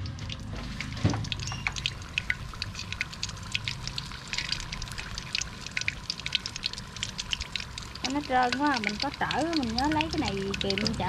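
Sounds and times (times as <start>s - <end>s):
fritters crackling in hot oil: 0.0s - 11.0s.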